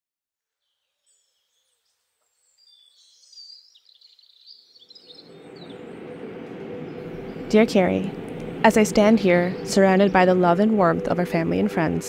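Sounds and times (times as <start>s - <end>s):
birds chirping and twittering: 0.6s - 12.0s
steady outdoor hiss: 1.1s - 12.0s.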